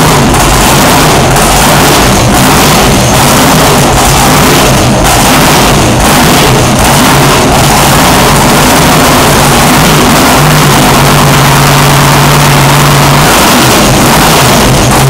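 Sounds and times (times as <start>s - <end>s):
boat engine revving loudly: 0.0s - 15.0s.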